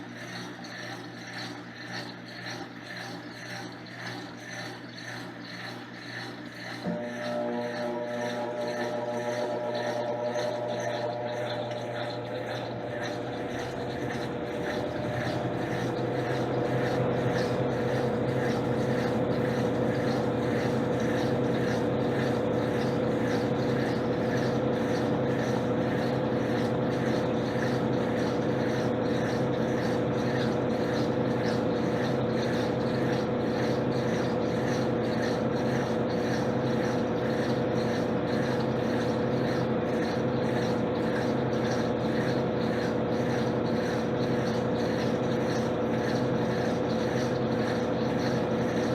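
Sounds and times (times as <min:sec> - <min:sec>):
washing machine spinning: 0:00.0 - 0:48.9.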